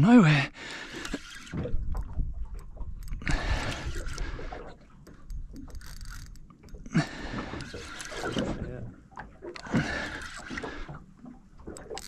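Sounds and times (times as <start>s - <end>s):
water lapping against boat: 0.0s - 12.0s.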